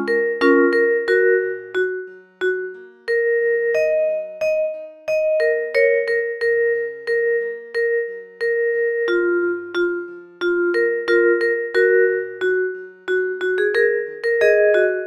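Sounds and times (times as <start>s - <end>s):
bell-like mallet ringtone melody: 0.0s - 15.0s.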